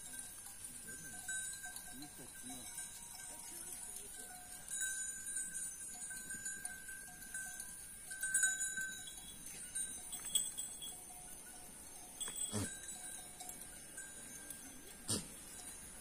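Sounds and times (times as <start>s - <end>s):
goat bells clinking: 0.0s - 16.0s.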